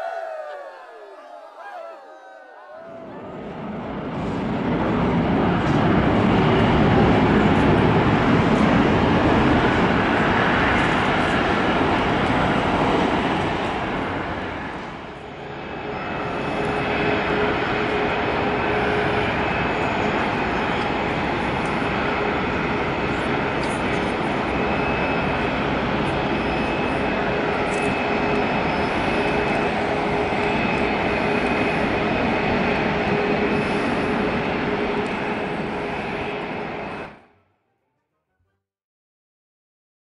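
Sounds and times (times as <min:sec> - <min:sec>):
jet engine whine: 0:00.0 - 0:37.3
jet engine roar: 0:02.5 - 0:37.2.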